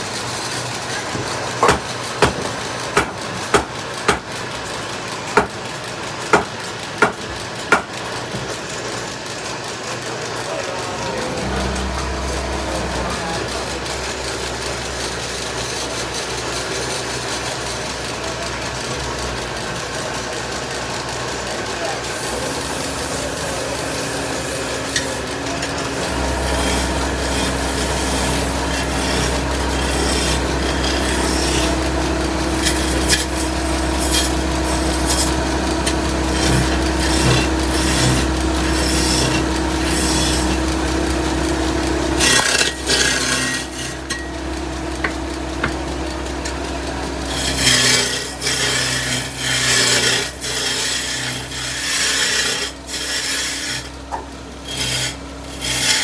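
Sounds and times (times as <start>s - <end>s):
lathe motor hum: 0.0s - 56.0s
chisel scraping spinning wood: 6.3s - 56.0s.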